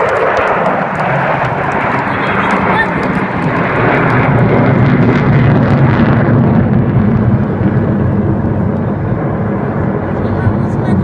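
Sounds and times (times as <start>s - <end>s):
aircraft passing: 0.0s - 11.0s.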